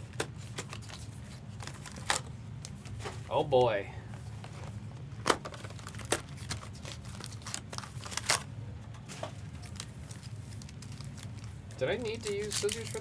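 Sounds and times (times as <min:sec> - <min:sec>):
steady low hum: 0:00.0 - 0:13.0
cardboard packaging crinkling and snapping: 0:00.1 - 0:02.8, 0:04.4 - 0:08.5, 0:09.3 - 0:13.0.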